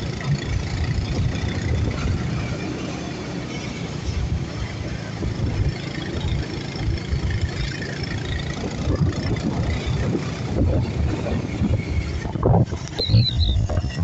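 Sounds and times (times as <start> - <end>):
wind on microphone: 0.0 - 2.8, 4.0 - 14.0
motorcycle engine running: 0.0 - 14.0.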